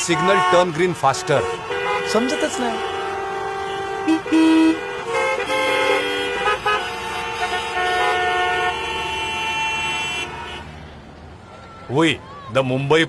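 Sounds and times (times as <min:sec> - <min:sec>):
vehicle horns honking: 0:00.0 - 0:11.0.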